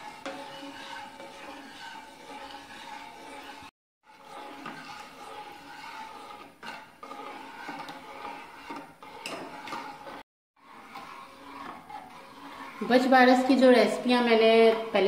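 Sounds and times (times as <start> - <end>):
ladle scraping metal pot: 0.0 - 15.0.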